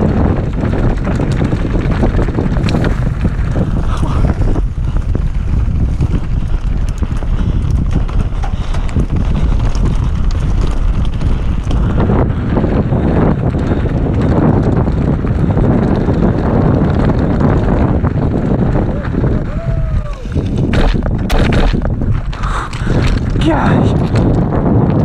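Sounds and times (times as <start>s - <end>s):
bike knocks and rattles: 0.0s - 25.0s
mountain bike rumbling on trail: 0.0s - 25.0s
wind buffeting microphone: 0.0s - 25.0s.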